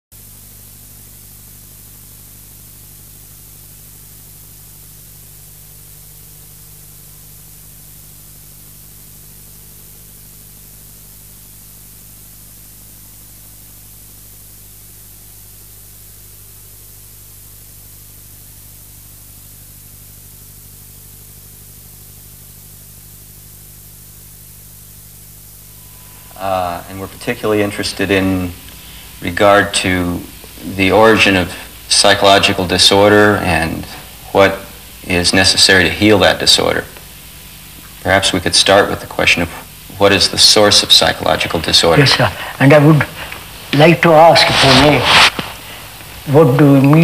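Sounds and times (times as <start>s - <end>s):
low electrical hum: 0.1s - 47.0s
tape hiss: 0.1s - 47.0s.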